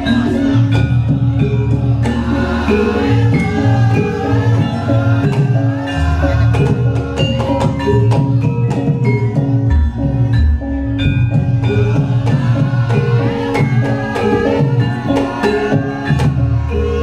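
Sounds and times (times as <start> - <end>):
gamelan music over sound system: 0.0 - 17.0.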